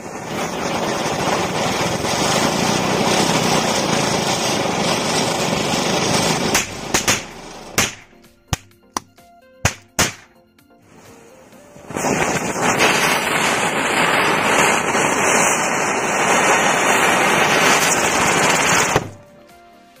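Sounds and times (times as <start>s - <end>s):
firework spinner hissing: 0.0s - 8.4s, 10.9s - 20.0s.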